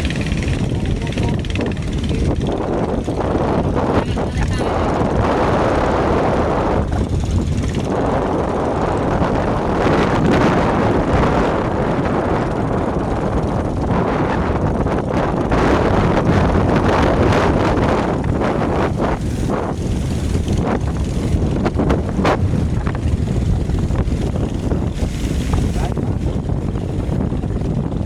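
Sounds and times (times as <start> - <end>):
boat engines running: 0.0 - 28.0
wind buffeting microphone: 0.0 - 28.0.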